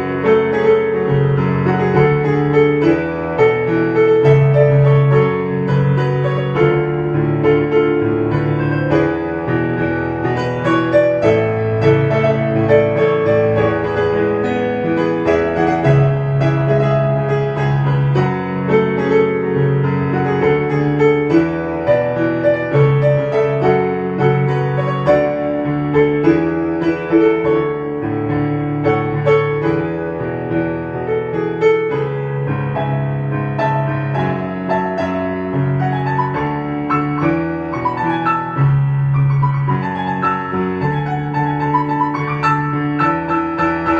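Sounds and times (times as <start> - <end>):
gentle piano music: 0.0 - 43.9.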